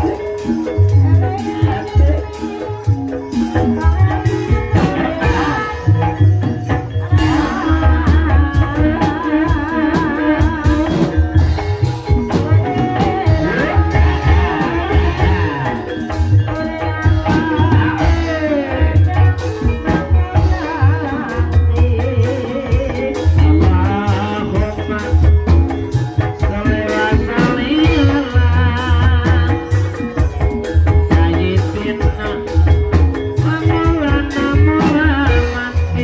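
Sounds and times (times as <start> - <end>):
gamelan ensemble playing: 0.0 - 36.0
person singing wavering melody: 0.0 - 36.0.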